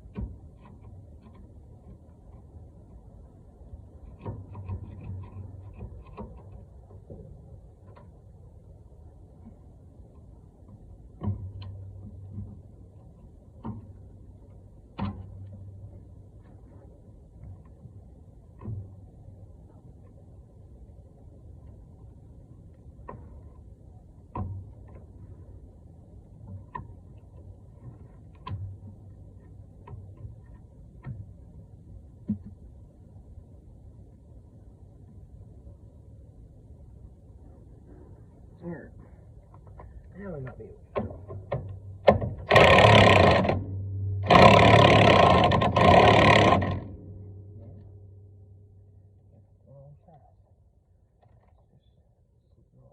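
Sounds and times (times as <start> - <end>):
low background rumble: 0.0 - 52.9.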